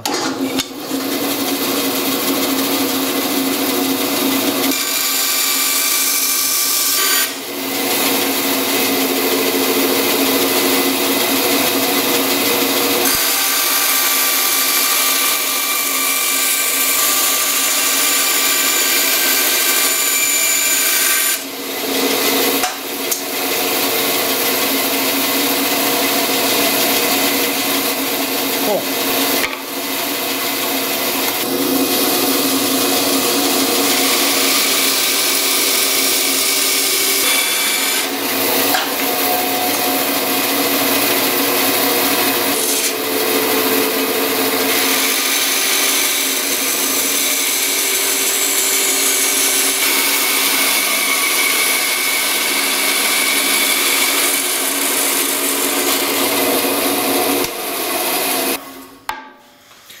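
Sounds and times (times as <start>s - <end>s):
bandsaw motor whine: 0.0s - 59.0s.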